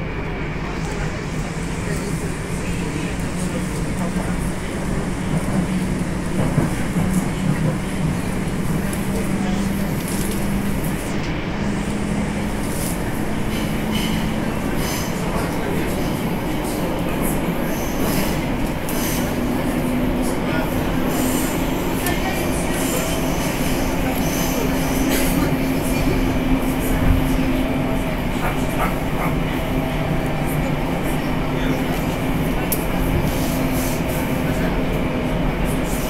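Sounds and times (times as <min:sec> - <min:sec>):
train rumbling in tunnel: 0:00.0 - 0:36.0.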